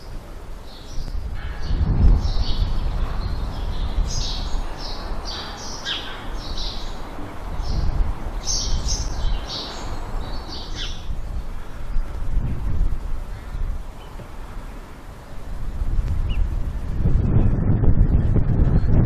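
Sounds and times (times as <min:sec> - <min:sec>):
songbirds singing and chirping: 0:00.0 - 0:16.6
steady low rumble: 0:00.0 - 0:19.0.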